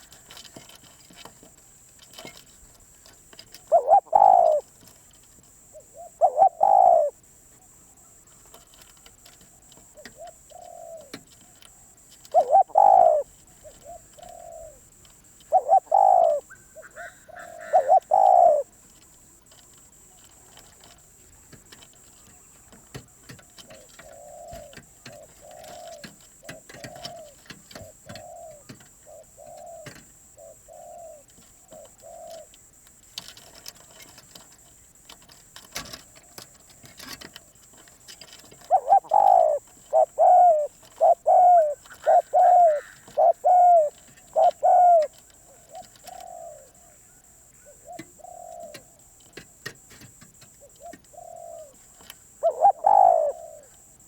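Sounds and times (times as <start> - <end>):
dove cooing: 2.0 - 21.0, 21.6 - 54.0.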